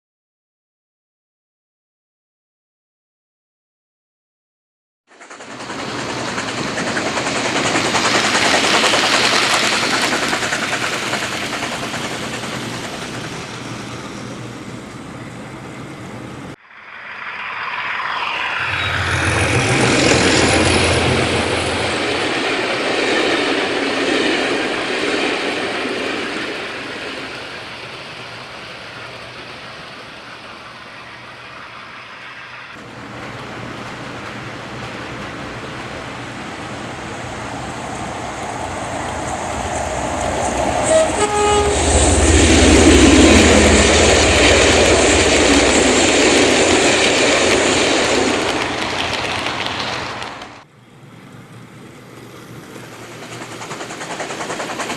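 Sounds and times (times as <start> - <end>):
low train engine drone: 5.1 - 54.9
train rolling past: 5.1 - 54.9.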